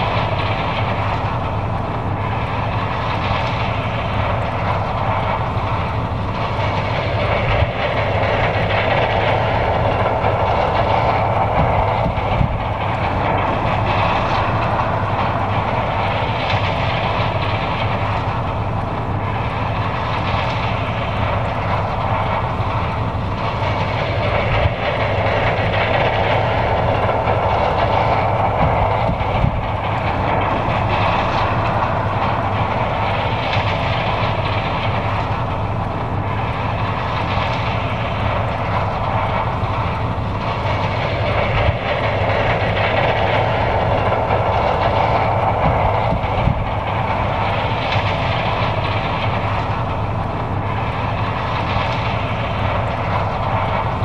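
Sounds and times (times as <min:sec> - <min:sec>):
combine harvester rumbling: 0:00.0 - 0:54.0.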